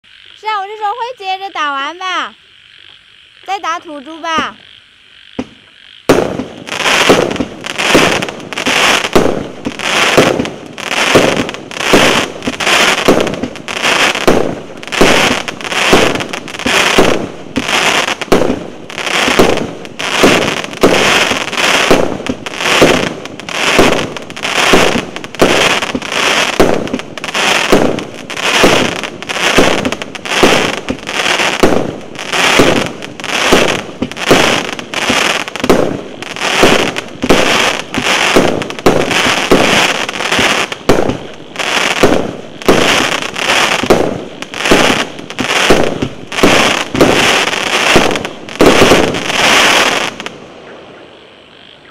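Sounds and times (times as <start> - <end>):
fireworks cake firing shots: 5.4 - 50.3.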